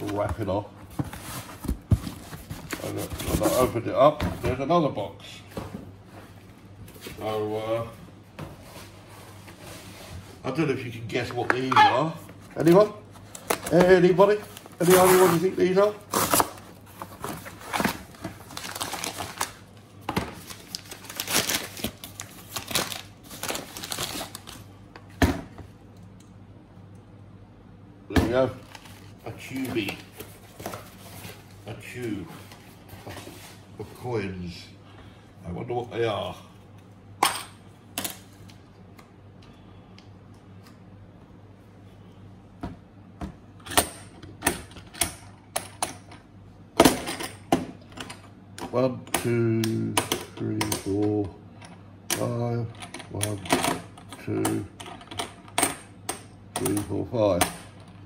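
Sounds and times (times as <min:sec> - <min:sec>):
faint room hum: 0:00.0 - 0:58.0.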